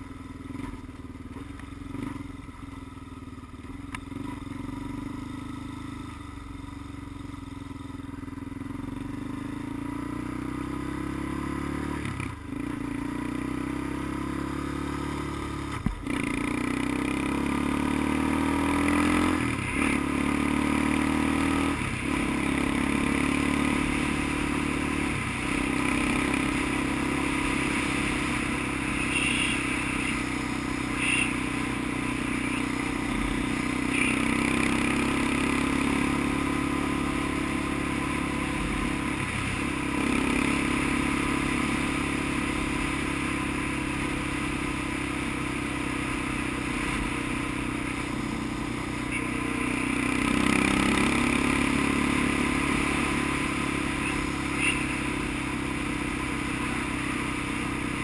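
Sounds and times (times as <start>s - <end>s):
vehicle engine with gear changes: 0.0s - 2.8s, 8.6s - 58.0s.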